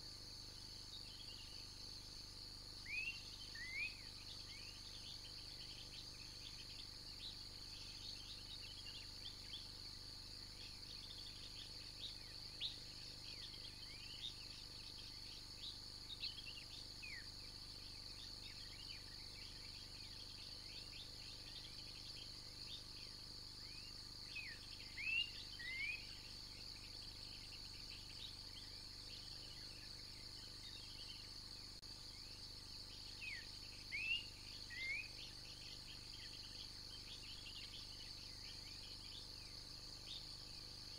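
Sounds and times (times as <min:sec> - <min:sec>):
high-pitched insect chorus: 0:00.0 - 0:40.9
bird chirps: 0:02.8 - 0:09.8, 0:10.6 - 0:31.3, 0:32.2 - 0:40.7.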